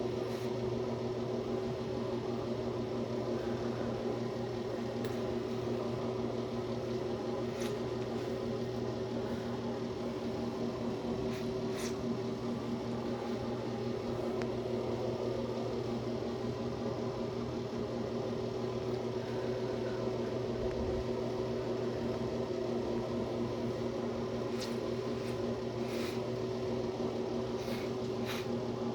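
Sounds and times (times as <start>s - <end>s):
steady mechanical hum: 0.0s - 28.9s.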